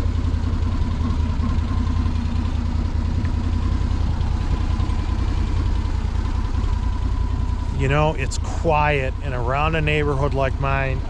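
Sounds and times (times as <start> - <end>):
engine idling steadily: 0.0 - 11.0.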